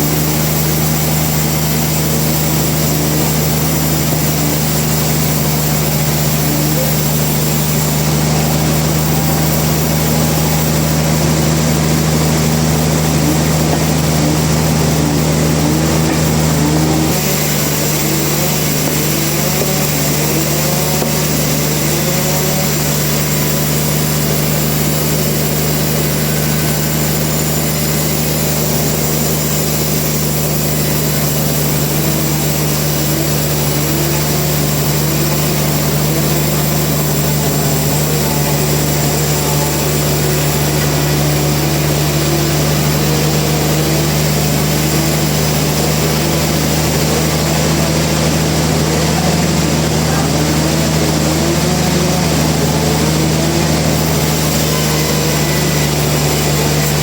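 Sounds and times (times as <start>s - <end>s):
low hum: 0.0s - 57.0s
sawmill machinery drone: 0.0s - 57.0s.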